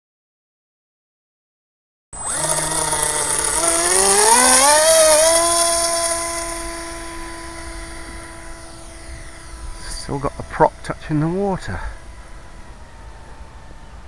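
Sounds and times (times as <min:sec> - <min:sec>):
electric motor whining: 0:02.2 - 0:14.0.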